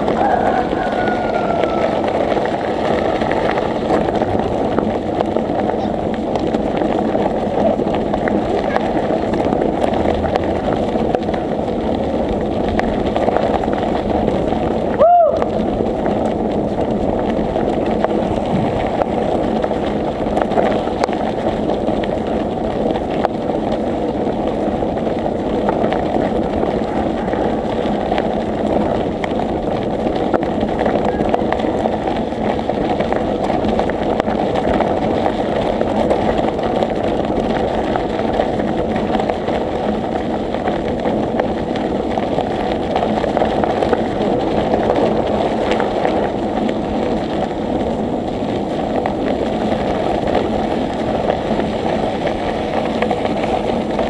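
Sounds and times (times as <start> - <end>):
tyres rumbling on road: 0.0 - 54.0
wind buffeting microphone: 0.0 - 54.0.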